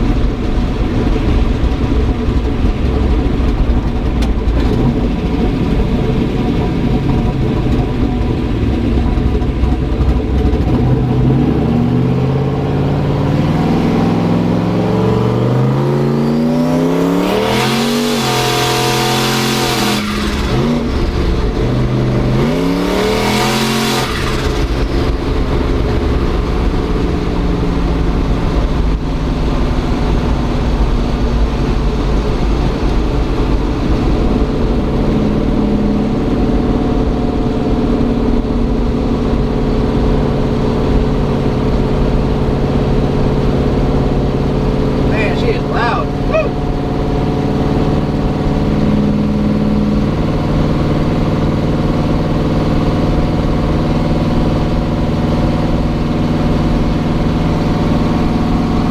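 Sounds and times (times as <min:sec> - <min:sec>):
car engine accelerating: 0:00.0 - 0:58.9.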